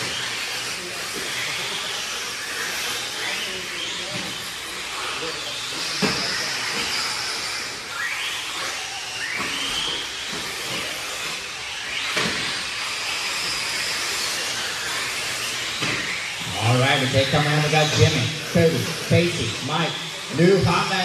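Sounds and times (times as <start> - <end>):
electric motor whines: 0.0 - 21.0.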